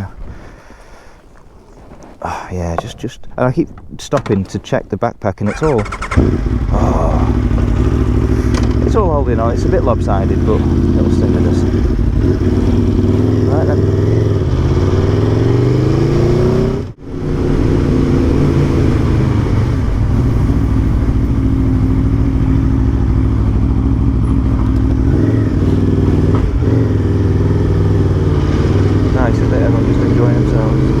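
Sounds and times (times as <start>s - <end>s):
motorcycle engine accelerating: 5.5s - 31.0s.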